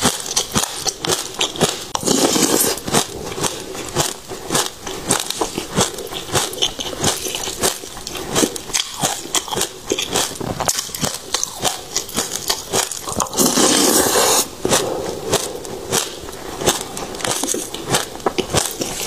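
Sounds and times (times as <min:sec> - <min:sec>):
seeds crunching while chewed: 0:00.0 - 0:19.0.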